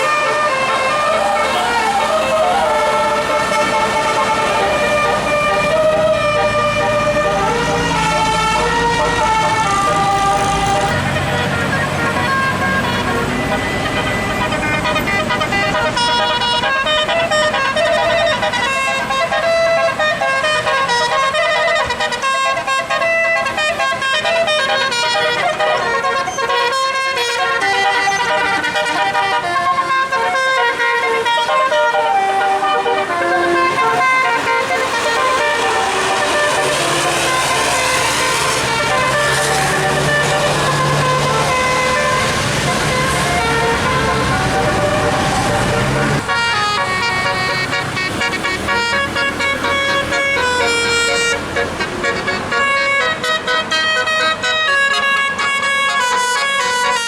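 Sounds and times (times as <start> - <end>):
bus horn playing melody: 0.0 - 57.0.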